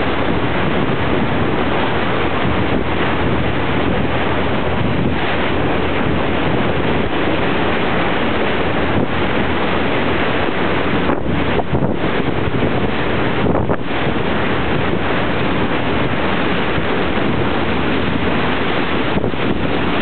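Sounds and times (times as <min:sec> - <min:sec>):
choppy sea water rushing: 0:00.0 - 0:20.0
wind noise on microphone: 0:00.0 - 0:20.0.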